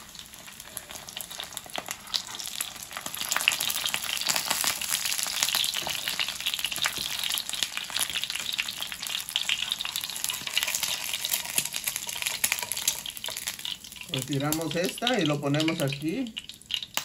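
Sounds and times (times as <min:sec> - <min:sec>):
egg sizzling in hot oil: 0:00.0 - 0:17.0.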